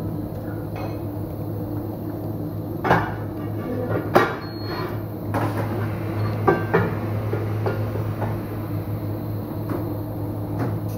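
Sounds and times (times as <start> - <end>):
low workshop hum: 0.0 - 10.9.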